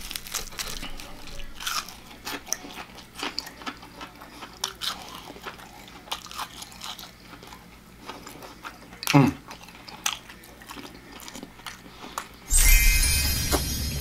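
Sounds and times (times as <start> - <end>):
crunchy chewing: 0.0 - 12.5.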